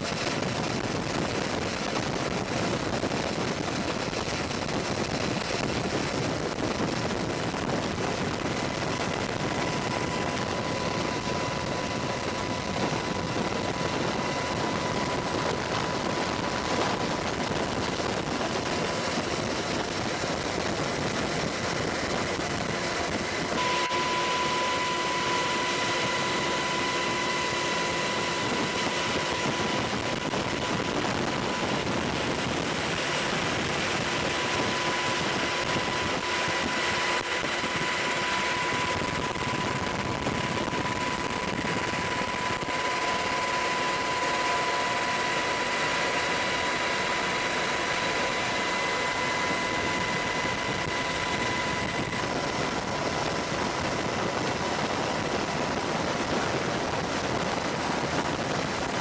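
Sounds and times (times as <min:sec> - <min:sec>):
helicopter turbine engines whining: 0:00.0 - 0:59.0.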